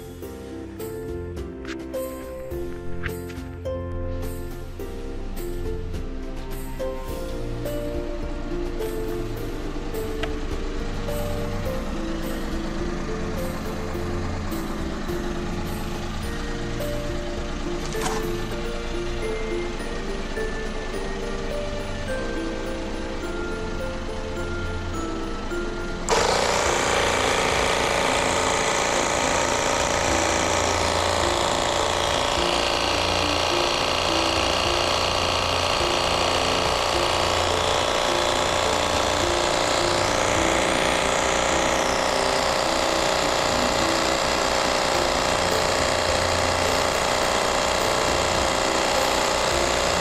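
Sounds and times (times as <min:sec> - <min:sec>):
air compressor running: 0:00.0 - 0:50.0.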